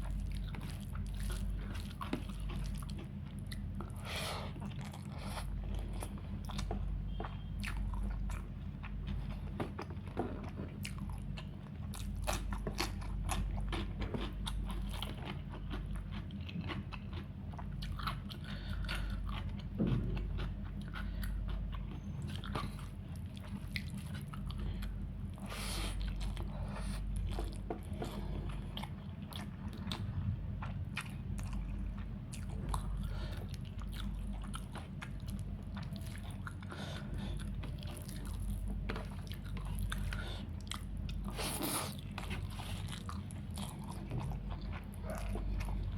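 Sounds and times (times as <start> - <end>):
food crunching: 0.0 - 45.9
person chewing: 0.0 - 45.9
steady low hum: 0.0 - 45.9.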